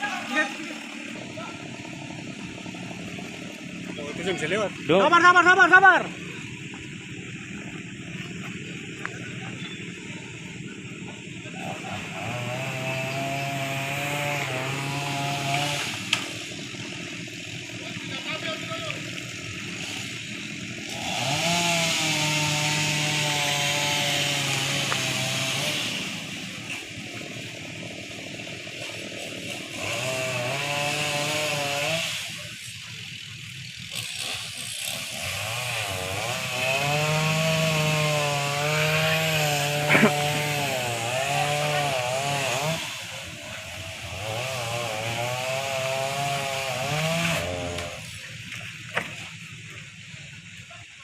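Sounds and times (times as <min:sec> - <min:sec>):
chainsaw cutting wood: 0:00.0 - 0:09.2, 0:10.8 - 0:49.8.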